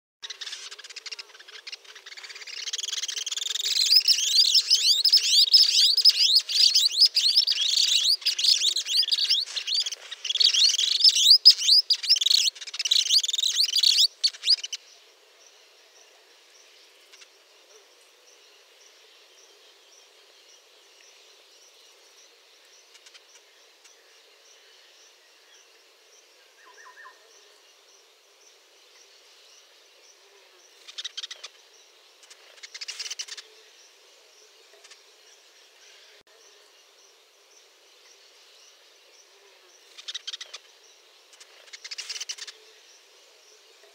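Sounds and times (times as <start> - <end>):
birds chirping and twittering: 0.2 - 43.9
faint steady high hiss: 0.2 - 43.9.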